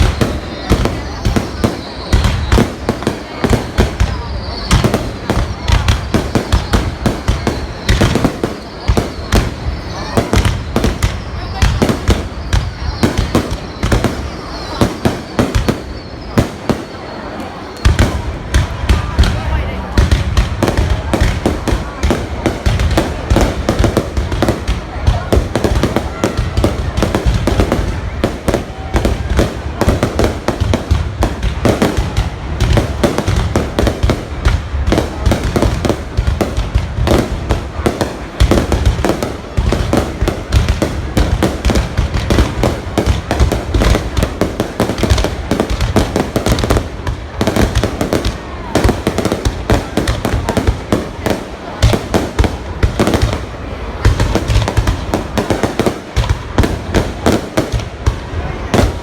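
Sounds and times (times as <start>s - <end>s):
deep fireworks booms: 0.0s - 59.0s
fireworks bangs and crackles: 0.0s - 59.0s.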